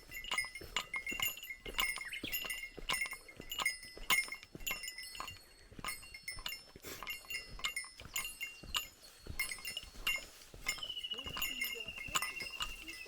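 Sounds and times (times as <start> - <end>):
small metal bell jingling: 0.0 - 13.0.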